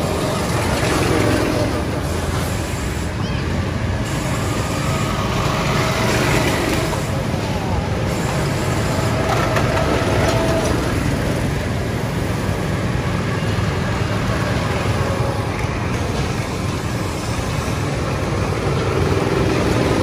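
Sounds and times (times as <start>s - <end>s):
kart engine passing close: 0.0s - 2.3s, 3.0s - 20.0s
go-kart engines running: 0.0s - 20.0s.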